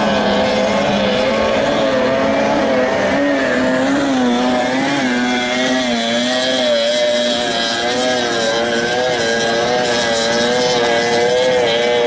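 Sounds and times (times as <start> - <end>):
outboard engine racing: 0.0 - 12.0.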